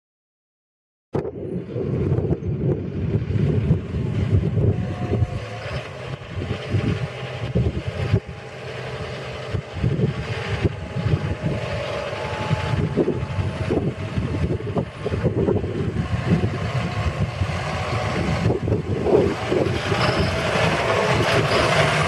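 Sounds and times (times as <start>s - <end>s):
wind buffeting microphone: 1.2s - 22.0s
tractor diesel engine running: 1.3s - 22.0s.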